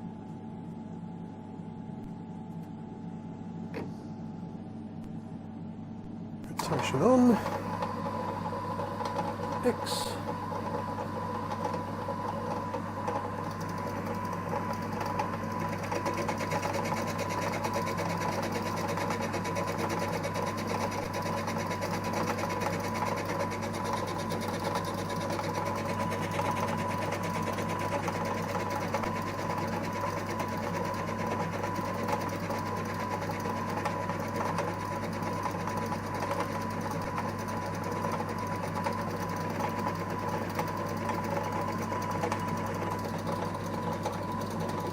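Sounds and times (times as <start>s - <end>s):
lathe running with even whine: 6.6s - 44.9s.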